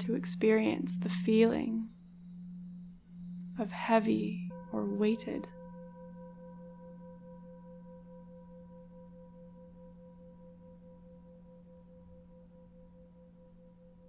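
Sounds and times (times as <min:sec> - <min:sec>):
singing bowl drone: 0:00.0 - 0:14.0.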